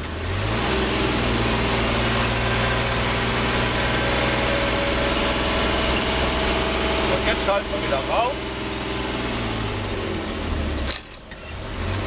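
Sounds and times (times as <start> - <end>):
truck engine revving higher: 0.0 - 12.0.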